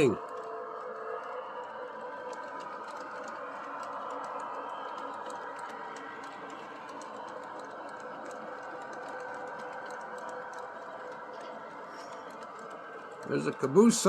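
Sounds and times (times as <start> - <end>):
small motor hum: 0.0 - 14.0
wheels clicking over rail joints: 0.0 - 14.0.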